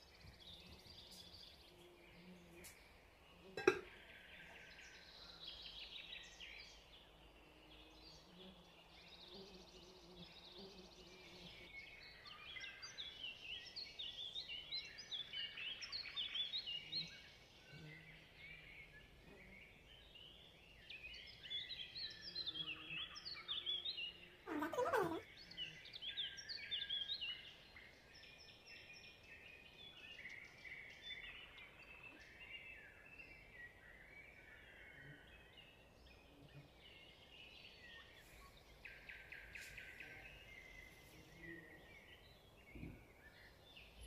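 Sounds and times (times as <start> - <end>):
small birds chirping and singing: 0.0 - 44.0.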